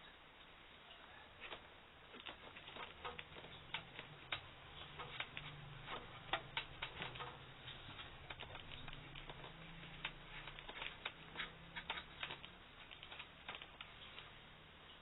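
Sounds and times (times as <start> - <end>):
light clicks and taps: 1.4 - 14.4.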